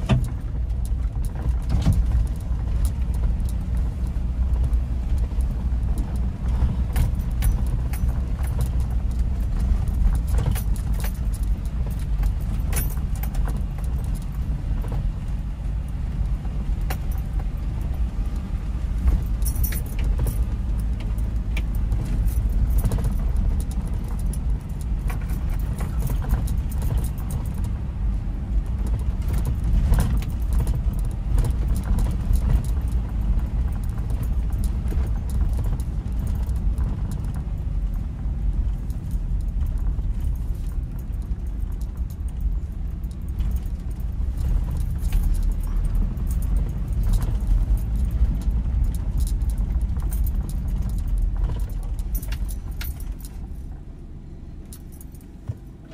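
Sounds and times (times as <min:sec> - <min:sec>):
car road and engine rumble: 0:00.0 - 0:55.9
light clicks and jingling rattles: 0:00.0 - 0:55.9.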